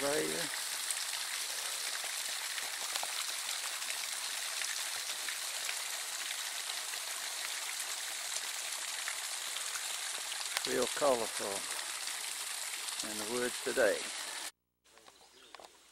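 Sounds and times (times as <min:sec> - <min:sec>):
creek water rushing: 0:00.0 - 0:14.5.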